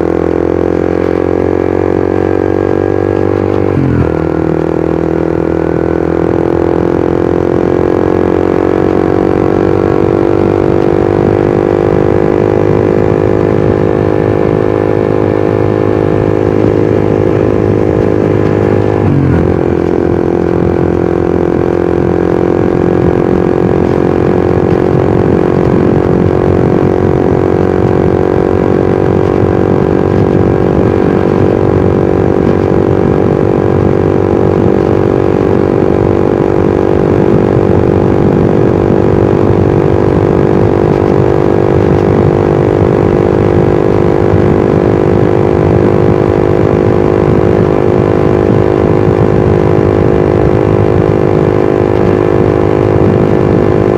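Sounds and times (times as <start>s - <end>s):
motorcycle engine and exhaust: 0.0s - 53.9s.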